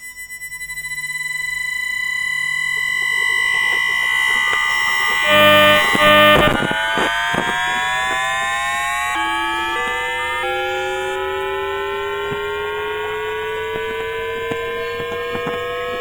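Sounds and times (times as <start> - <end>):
train traction inverter whine: 0.0 - 16.0.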